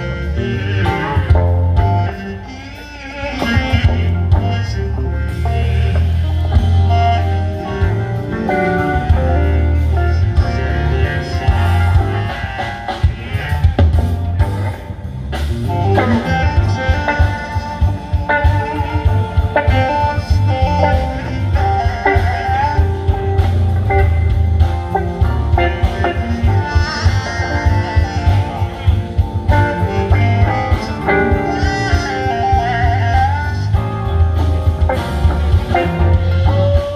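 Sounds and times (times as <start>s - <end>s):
live band instrumental: 0.0s - 36.9s
strong bass line: 0.0s - 36.9s.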